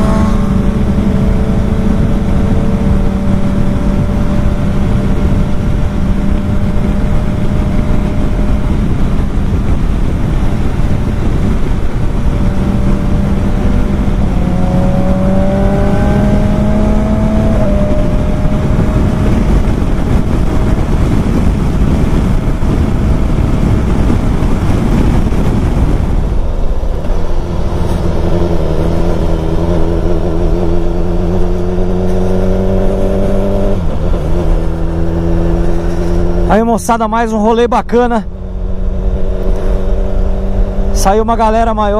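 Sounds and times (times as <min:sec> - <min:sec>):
motorcycle engine running: 0:00.0 - 0:41.9
wind noise on microphone: 0:00.0 - 0:41.9.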